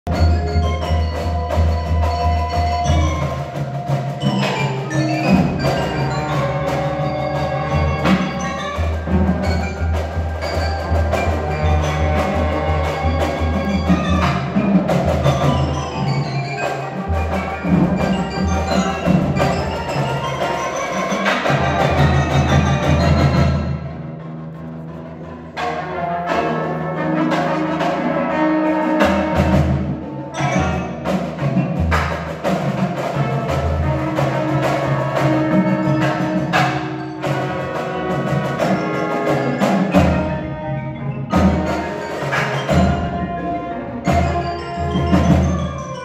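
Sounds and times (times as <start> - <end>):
trumpets playing: 0.1 - 23.9, 25.5 - 31.4, 33.1 - 46.0
marimbas playing: 0.1 - 46.0.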